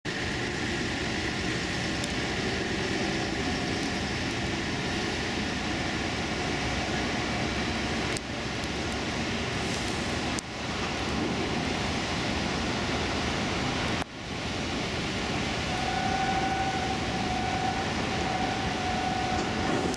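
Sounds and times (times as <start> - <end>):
distant highway traffic: 0.1 - 19.9
heavy rain: 0.1 - 19.9.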